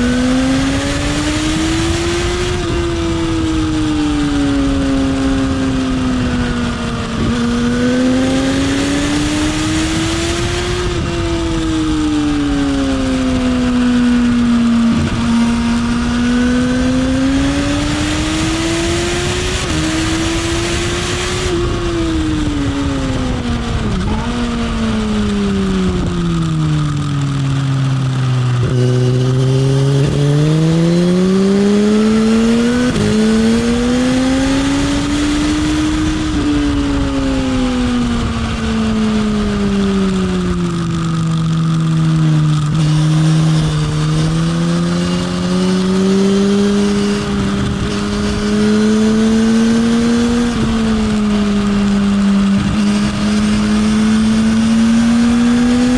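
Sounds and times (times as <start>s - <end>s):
motorcycle engine revving: 0.0s - 55.9s
wind rush: 0.0s - 55.9s.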